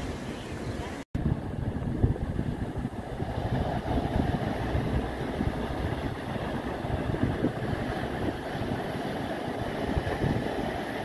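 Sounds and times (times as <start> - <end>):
sea surf breaking on rocks: 0.0 - 11.0
wind buffeting microphone: 0.0 - 11.0.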